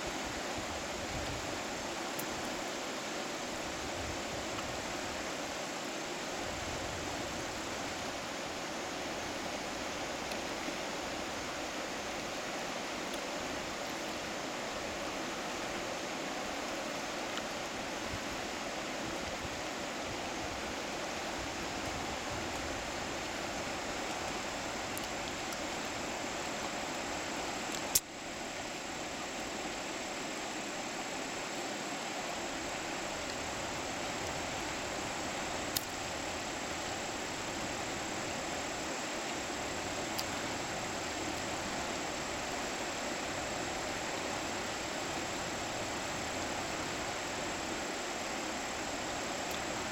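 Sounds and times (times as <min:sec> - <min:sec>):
river water rushing over rocks: 0:00.0 - 0:49.9.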